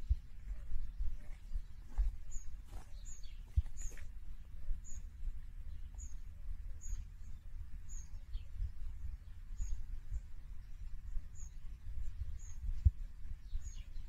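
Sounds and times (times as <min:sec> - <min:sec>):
bird chirping: 0:00.0 - 0:14.0
steady low rumble: 0:00.0 - 0:14.0.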